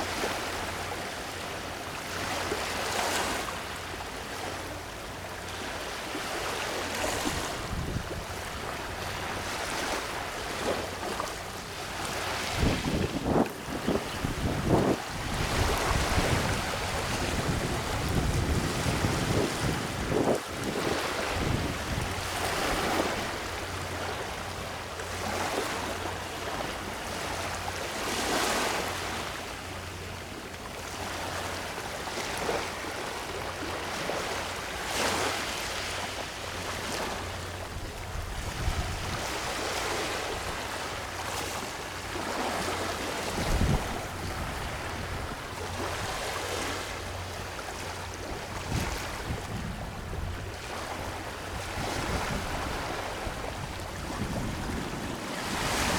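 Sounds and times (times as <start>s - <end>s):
waves washing onto sand: 0.0s - 55.9s.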